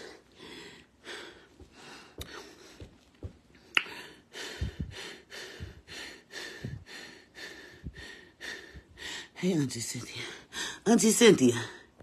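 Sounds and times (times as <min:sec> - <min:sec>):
woman breathing heavily: 0:00.0 - 0:09.4, 0:10.1 - 0:10.9.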